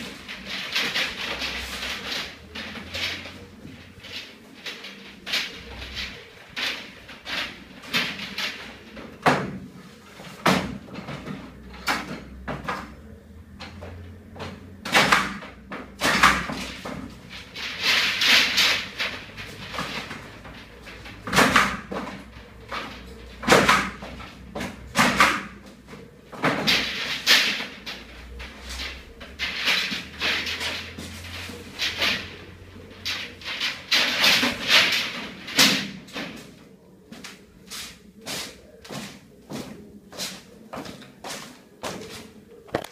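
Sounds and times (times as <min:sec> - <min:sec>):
plastic pipe scraping and rustling: 0:00.0 - 0:42.9.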